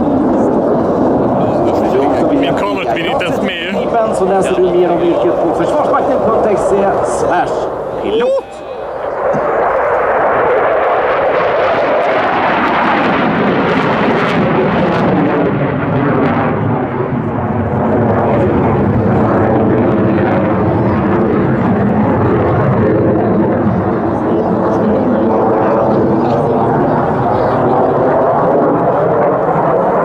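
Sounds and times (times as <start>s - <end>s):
faint jet whine: 0.0s - 30.0s
jet engine roar: 0.0s - 30.0s.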